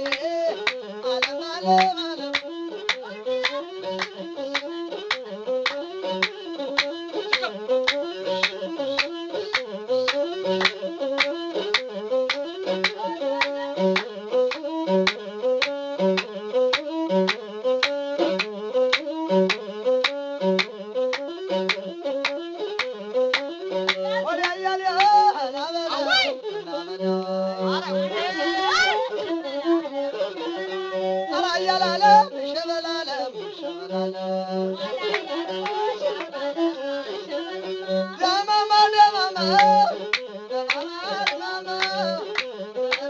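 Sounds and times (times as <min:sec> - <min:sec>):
bowed fiddle melody: 0:00.0 - 0:43.0.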